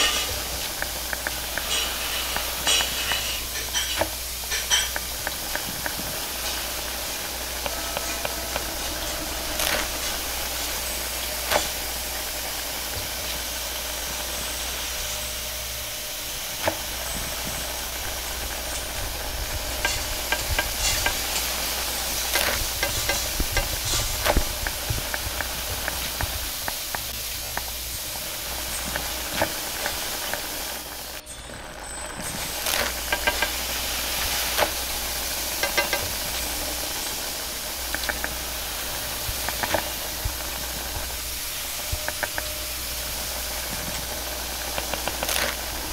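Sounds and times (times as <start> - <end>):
food sizzling in a wok: 0.0 - 45.9
gas burner rumble: 0.0 - 45.9
metal tongs and spatula on wok: 0.0 - 45.9
water hissing in hot wok: 0.0 - 45.9.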